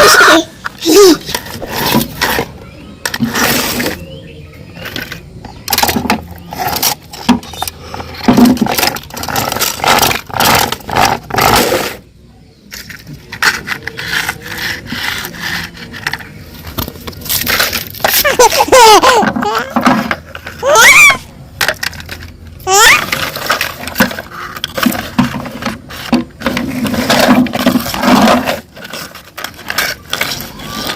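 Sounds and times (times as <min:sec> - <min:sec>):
toys scraping and clattering: 0:00.0 - 0:12.1, 0:12.7 - 0:30.9.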